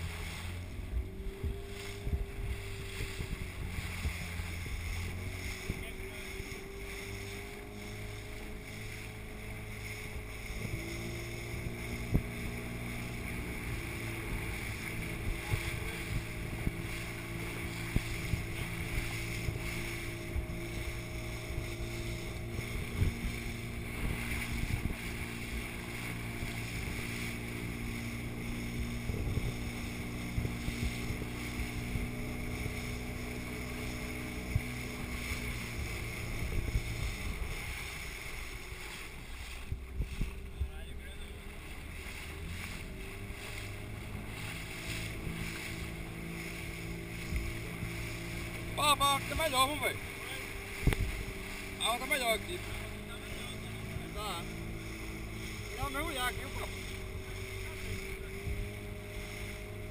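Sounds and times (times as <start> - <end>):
boat engine humming: 0.0 - 59.9
water sloshing against camera: 0.0 - 59.9.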